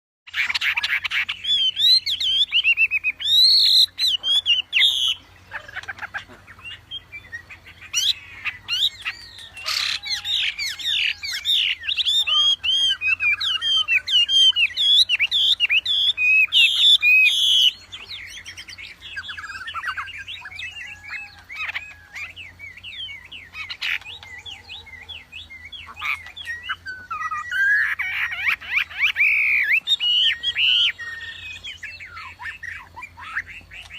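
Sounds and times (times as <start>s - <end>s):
songbird singing: 0.3s - 33.9s.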